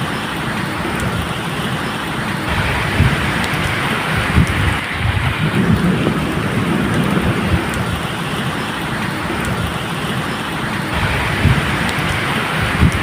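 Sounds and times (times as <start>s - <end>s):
steady rain hiss: 0.0s - 13.0s
distant thunder rumbles: 2.4s - 13.0s.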